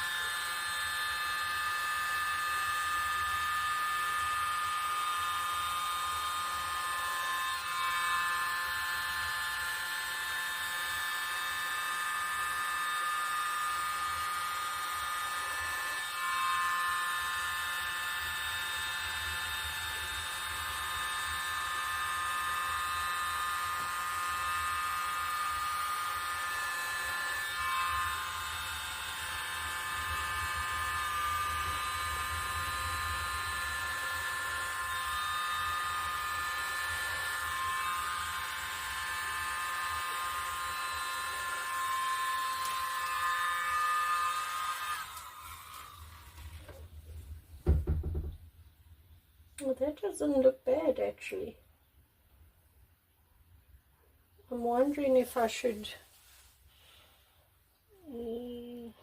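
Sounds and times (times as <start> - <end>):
hair dryer running: 0.0 - 48.3.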